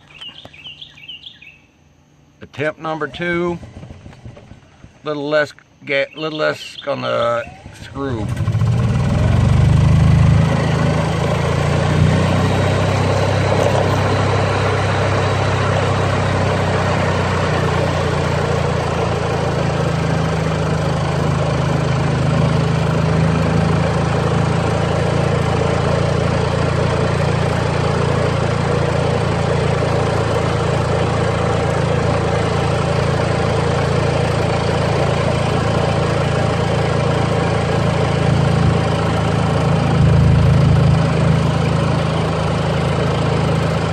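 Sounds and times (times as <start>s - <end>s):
small gasoline engine running: 2.6s - 5.2s, 7.0s - 43.9s.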